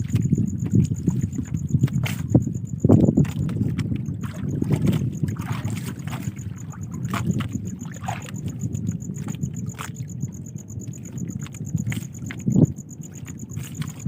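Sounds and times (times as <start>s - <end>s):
low rumble of wind: 0.0s - 14.0s
water rumbling: 0.0s - 14.0s.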